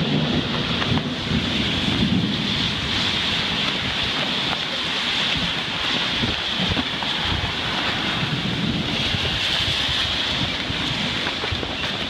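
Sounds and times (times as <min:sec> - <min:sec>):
heavy rain pouring: 0:00.0 - 0:12.0
wind buffeting microphone: 0:00.0 - 0:12.0.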